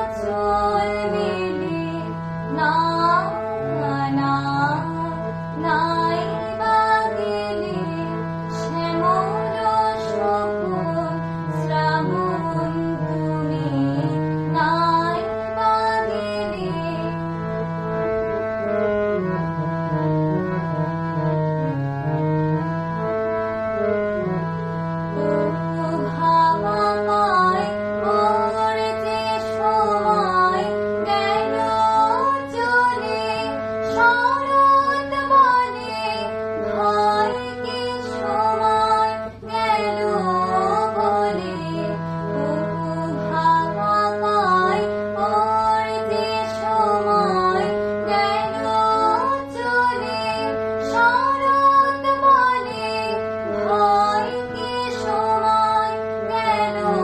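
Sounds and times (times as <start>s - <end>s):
girl singing: 0.0s - 17.3s, 25.4s - 57.0s
harmonium playing: 0.0s - 57.0s.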